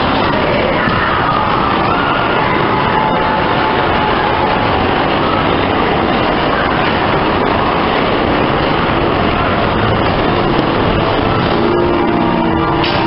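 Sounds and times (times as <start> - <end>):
ride car rumbling along track: 0.0 - 13.0.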